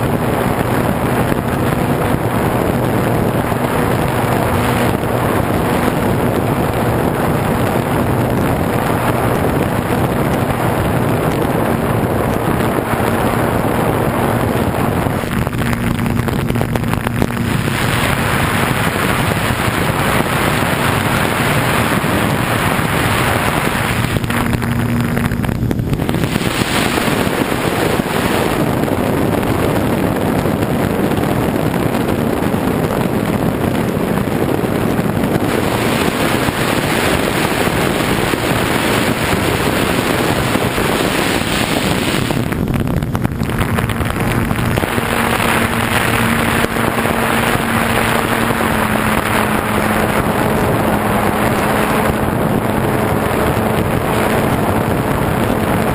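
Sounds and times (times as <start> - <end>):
model plane motor humming: 0.0 - 55.9
wind rushing over camera: 0.0 - 55.9.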